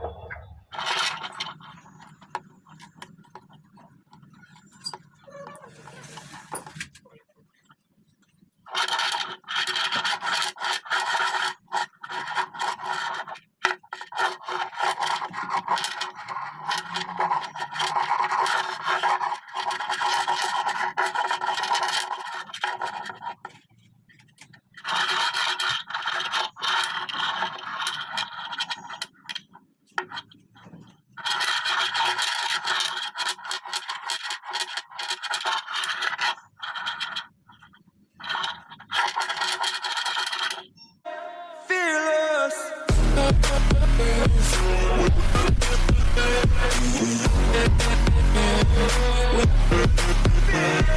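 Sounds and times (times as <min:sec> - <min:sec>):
magnetic balls rubbing and scraping: 0:00.0 - 0:41.0, 0:42.9 - 0:50.9.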